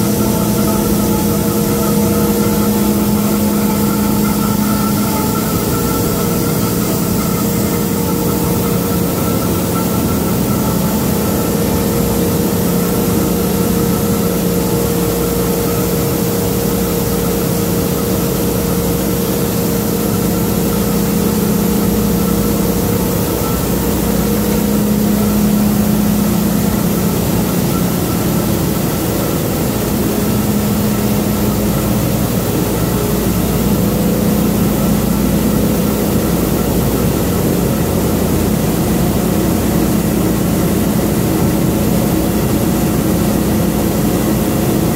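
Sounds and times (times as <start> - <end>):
heavy machinery humming: 0.0 - 44.9.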